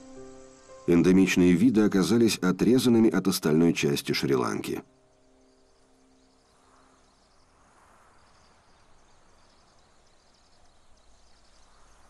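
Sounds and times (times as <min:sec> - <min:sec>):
faint insects trilling: 0:00.0 - 0:12.0.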